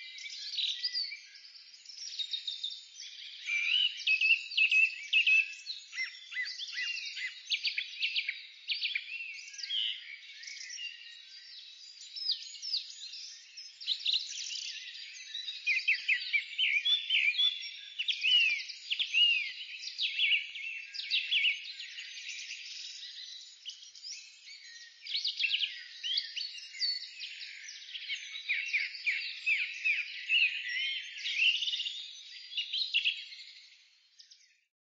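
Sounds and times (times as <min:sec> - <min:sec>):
songbirds singing: 0:00.0 - 0:34.7.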